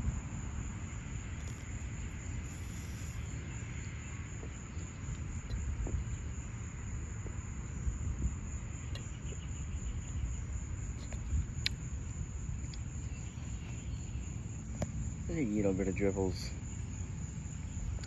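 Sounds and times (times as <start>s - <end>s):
constant low rumble: 0.0s - 18.0s
crickets trilling: 0.0s - 18.0s.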